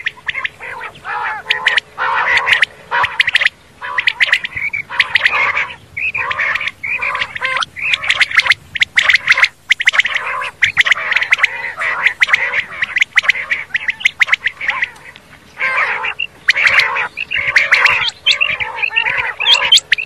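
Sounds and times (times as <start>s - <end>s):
quail calling: 0.0s - 20.0s.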